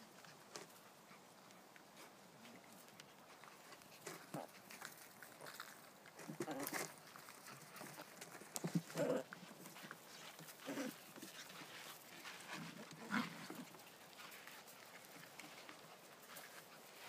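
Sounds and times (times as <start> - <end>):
faint scratching and rustling: 0.0 - 17.0.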